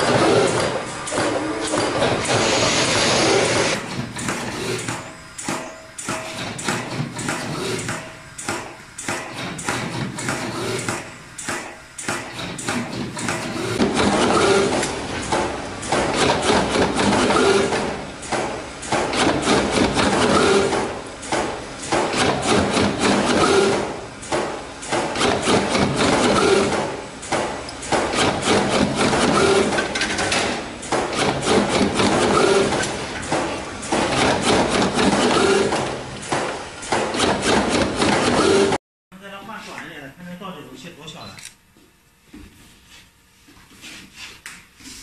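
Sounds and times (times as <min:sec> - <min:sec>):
machinery clattering: 0:00.0 - 0:38.8.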